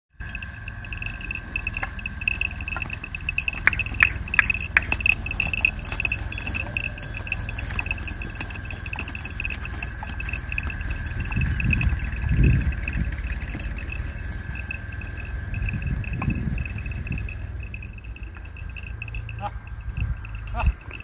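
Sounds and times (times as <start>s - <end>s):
rapidly pulsing high tone: 0.1s - 21.0s
small bells jingling: 0.1s - 21.0s
low rumble: 0.2s - 21.0s.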